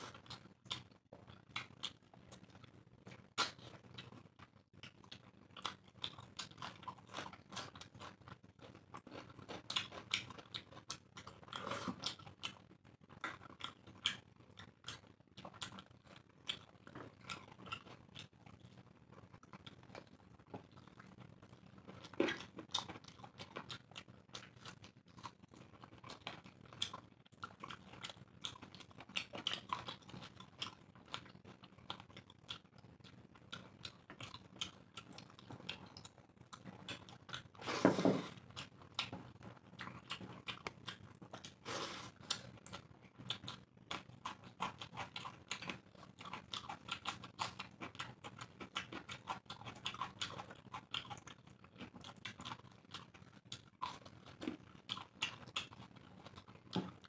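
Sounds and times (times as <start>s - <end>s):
chewing and mouth clicks: 0.0s - 57.0s.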